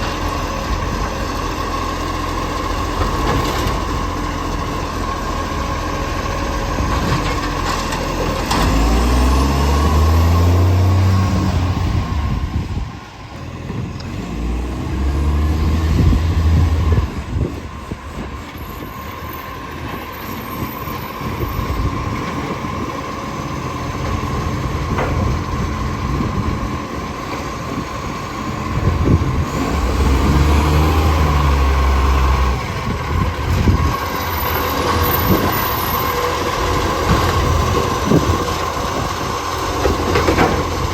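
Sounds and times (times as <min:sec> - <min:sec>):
diesel truck engine revving: 0:00.0 - 0:18.7, 0:21.2 - 0:40.9.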